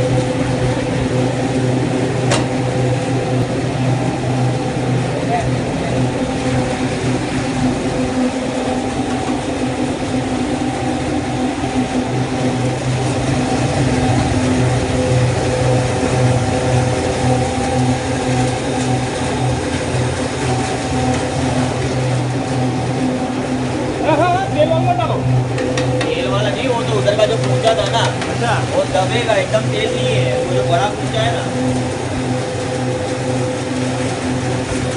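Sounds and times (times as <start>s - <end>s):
motor hum: 0.0s - 34.9s
oil press mechanical drone: 0.0s - 34.9s.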